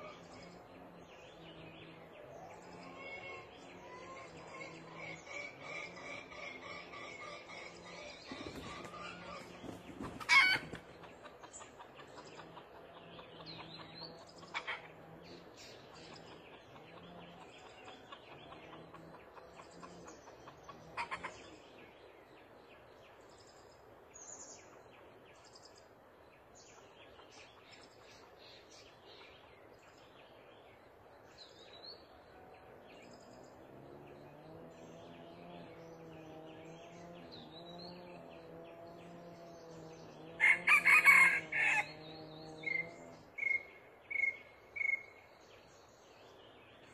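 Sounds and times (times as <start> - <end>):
small forest birds chirping: 0.0 - 46.9.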